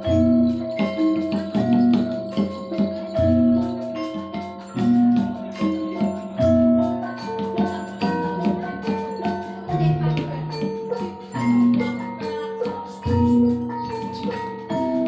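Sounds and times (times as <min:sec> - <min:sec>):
metallophones ringing melody: 0:00.0 - 0:15.0.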